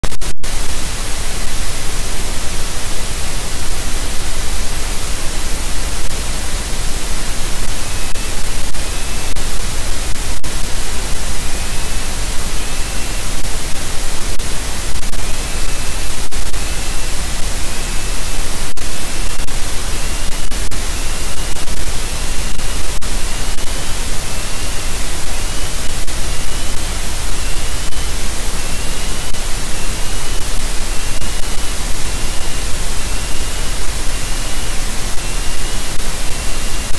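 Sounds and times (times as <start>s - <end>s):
microphone static hiss: 0.0s - 36.9s.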